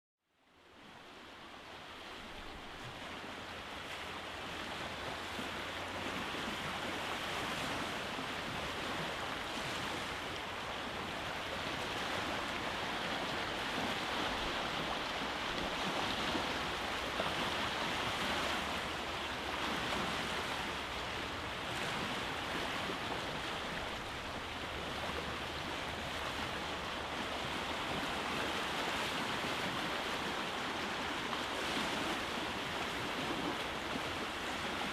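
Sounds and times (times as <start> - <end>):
waves breaking on rocky shore: 1.7 - 34.9.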